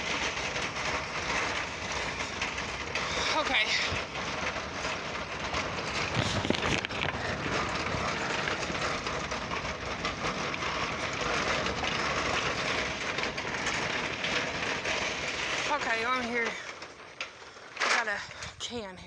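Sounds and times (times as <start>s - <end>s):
shopping cart rattling on pavement: 0.0s - 19.0s.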